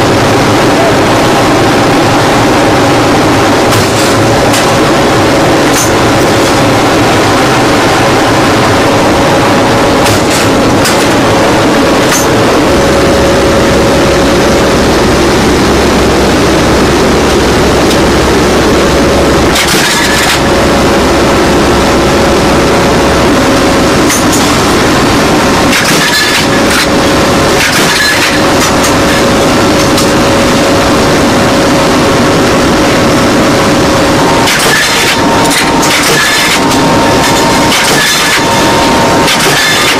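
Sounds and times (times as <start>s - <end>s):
loud mechanical rumble: 0.0s - 39.9s.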